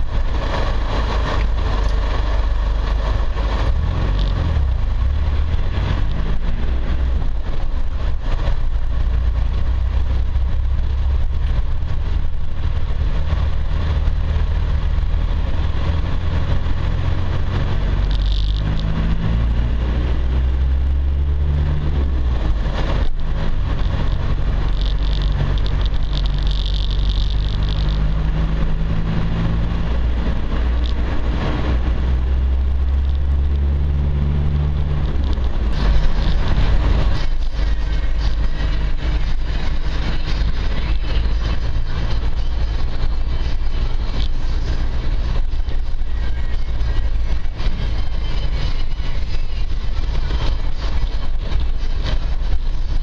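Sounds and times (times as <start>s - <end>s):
car engine low drone: 0.0s - 53.0s.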